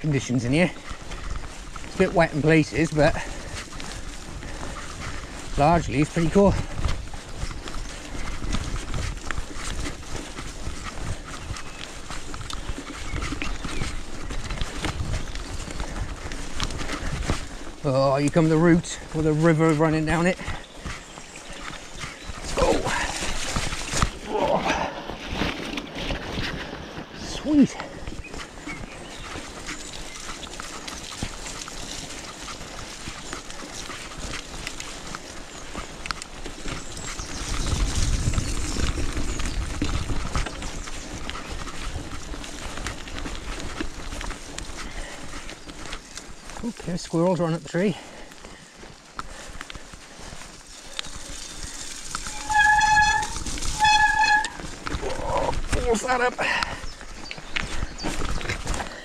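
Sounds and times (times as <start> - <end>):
bike rattling and knocking: 0.0 - 59.0
bike tyres rolling on soft ground: 0.0 - 59.0.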